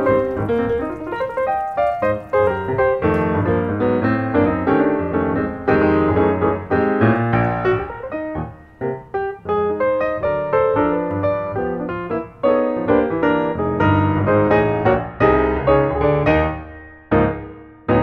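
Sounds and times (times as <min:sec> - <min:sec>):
lively piano music: 0:00.0 - 0:18.0.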